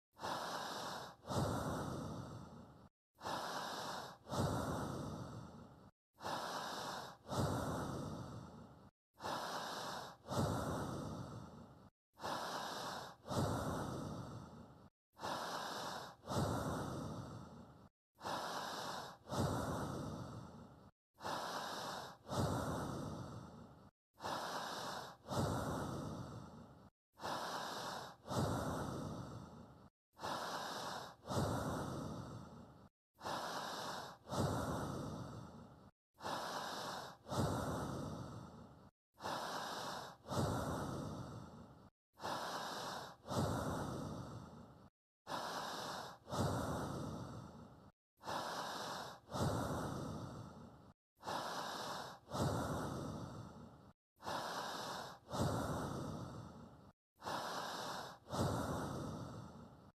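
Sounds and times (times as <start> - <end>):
person breathing: 0.1 - 59.9.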